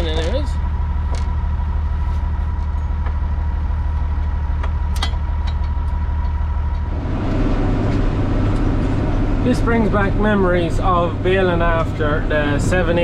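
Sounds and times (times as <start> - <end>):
thin steady whine: 0.0 - 13.0
tractor engine running: 0.0 - 13.0.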